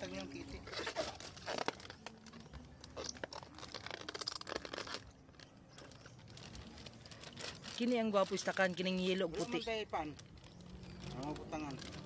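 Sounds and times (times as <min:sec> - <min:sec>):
plastic bag crinkling in water: 0:00.0 - 0:12.0.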